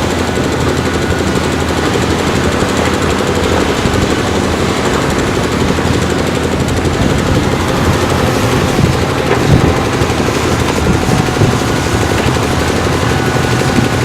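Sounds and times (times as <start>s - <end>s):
excavator diesel engine rattling: 0.0s - 14.0s.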